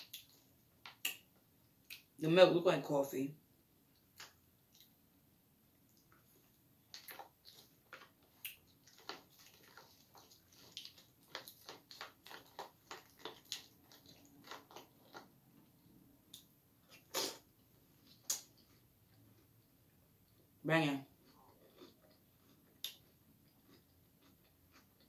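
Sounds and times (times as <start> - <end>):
cereal being chewed: 0.0 - 1.2, 5.8 - 25.0.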